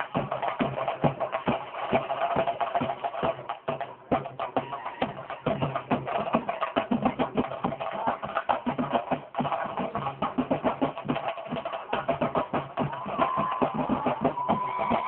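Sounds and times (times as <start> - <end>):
drums beaten fast with sticks: 0.0 - 15.0.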